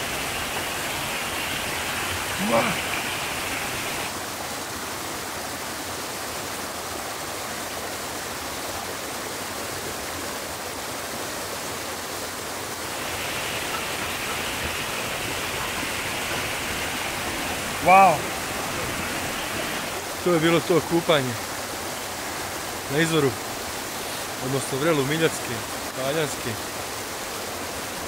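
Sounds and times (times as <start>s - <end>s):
waterfalls rushing: 0.0s - 28.0s.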